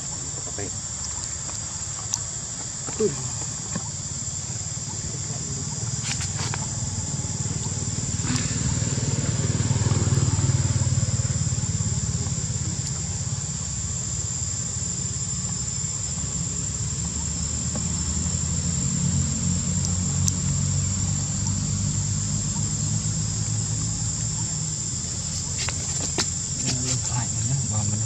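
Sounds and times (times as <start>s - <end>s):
high-pitched insect drone: 0.0s - 28.0s
low engine-like rumble: 0.0s - 28.0s.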